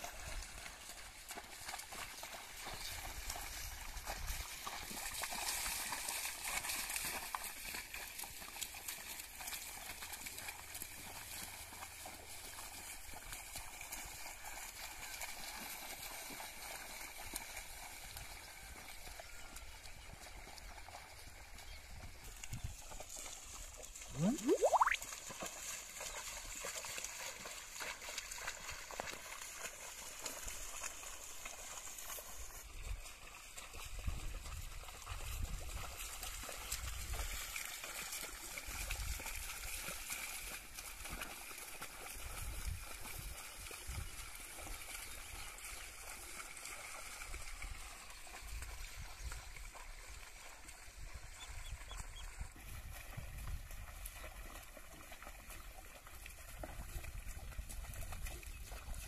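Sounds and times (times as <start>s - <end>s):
hooves splashing in mud: 0.0s - 59.0s.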